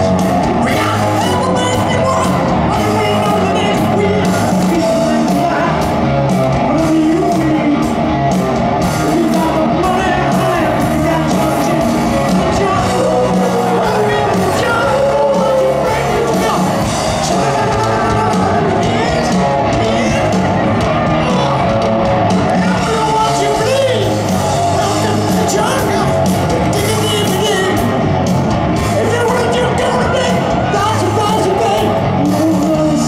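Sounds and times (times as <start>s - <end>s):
man singing: 0.0s - 8.2s, 8.9s - 21.7s, 22.4s - 27.9s, 28.9s - 33.0s
drum beat: 0.0s - 33.0s
electric guitars: 0.0s - 33.0s
hard rock band playing: 0.0s - 33.0s.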